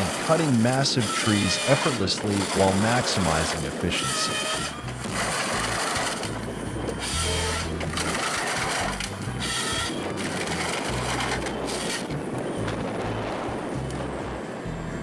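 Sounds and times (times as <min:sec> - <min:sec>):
harvester engine running: 0:00.0 - 0:15.0.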